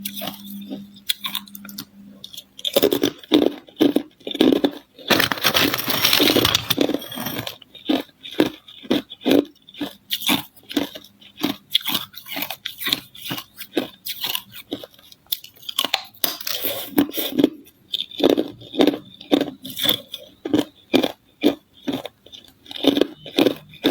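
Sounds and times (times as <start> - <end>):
ice crunching while chewed: 0.0 - 23.9.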